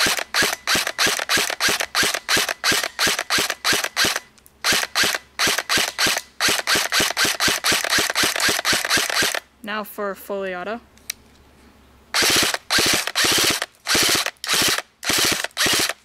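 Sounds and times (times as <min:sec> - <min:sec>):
airsoft rifle shots popping: 0:00.0 - 0:09.4, 0:12.2 - 0:16.0.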